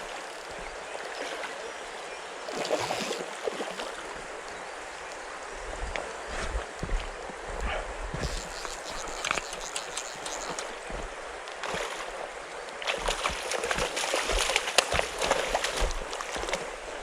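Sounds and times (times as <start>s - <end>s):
stream water sloshing and splashing: 0.0s - 17.0s.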